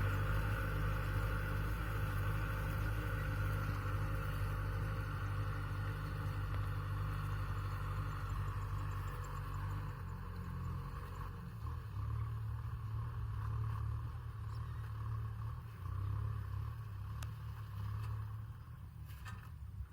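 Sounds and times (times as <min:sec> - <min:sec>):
tractor diesel engine droning: 0:00.0 - 0:19.9.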